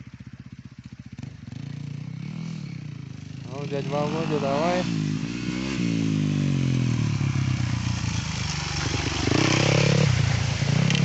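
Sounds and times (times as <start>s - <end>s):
vehicle engine revving: 1.1s - 11.0s.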